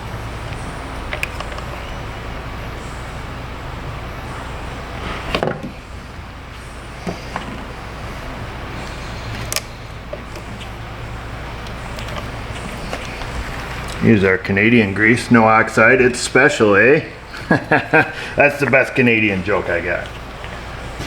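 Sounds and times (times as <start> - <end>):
low workshop hum: 0.0 - 21.0.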